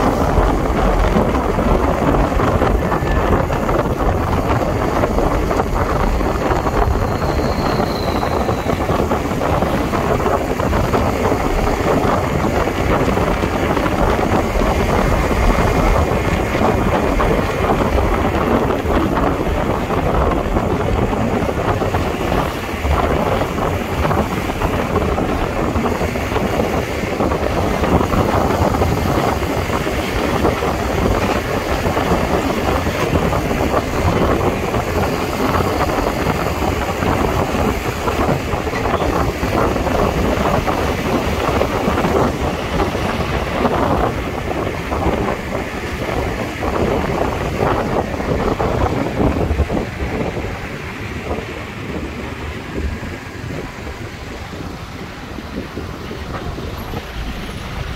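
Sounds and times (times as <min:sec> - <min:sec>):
road traffic: 0:00.0 - 0:57.9
wind rushing over microphone: 0:00.0 - 0:57.9.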